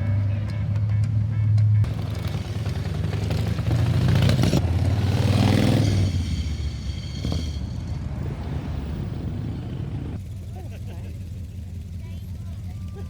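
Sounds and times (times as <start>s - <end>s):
other engines running: 0.0s - 13.0s.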